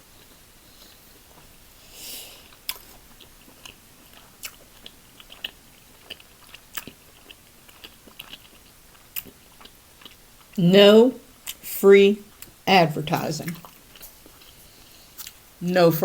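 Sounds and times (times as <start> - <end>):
chewing and crunching: 0.0 - 10.6, 11.2 - 12.6, 13.4 - 15.6.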